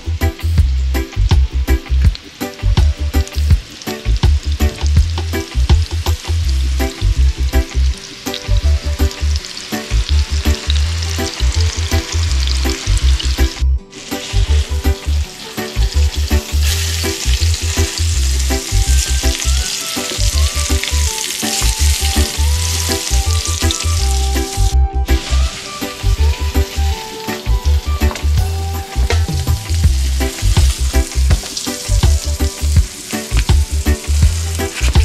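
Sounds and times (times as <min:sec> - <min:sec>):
background music with bass beat: 0:00.0 - 0:35.0
fish sizzling in frying pan: 0:02.1 - 0:35.0.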